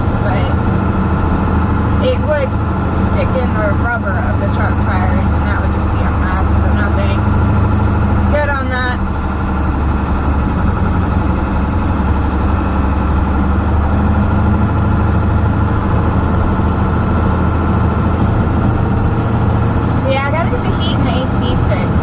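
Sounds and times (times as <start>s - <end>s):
truck engine drone and road noise: 0.0s - 22.0s.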